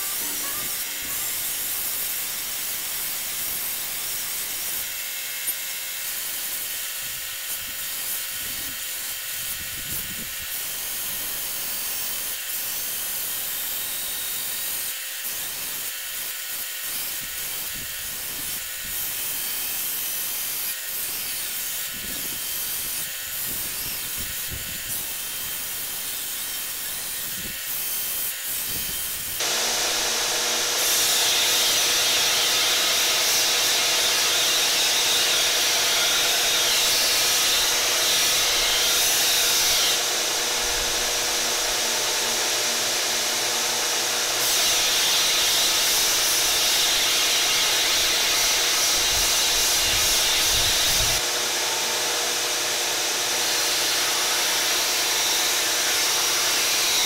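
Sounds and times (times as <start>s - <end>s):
belt grinder sanding wood: 0.0s - 57.0s.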